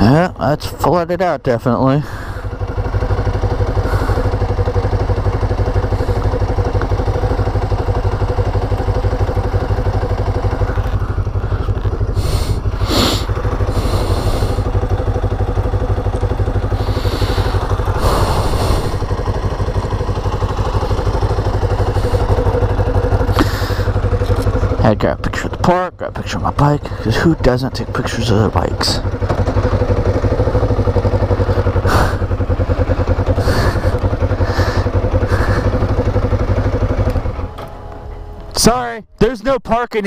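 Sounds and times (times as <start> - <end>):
motorcycle engine idling: 0.0 - 39.0.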